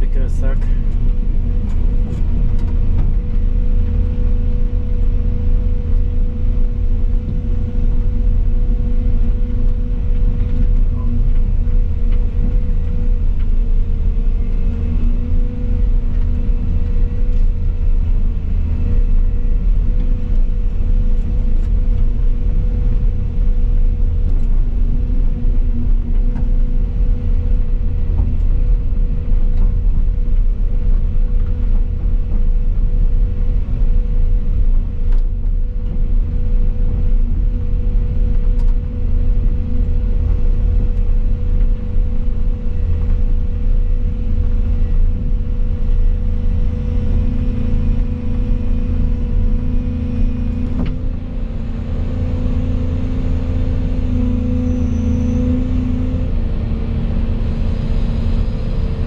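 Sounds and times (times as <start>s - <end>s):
excavator engine rumble: 0.0s - 59.0s.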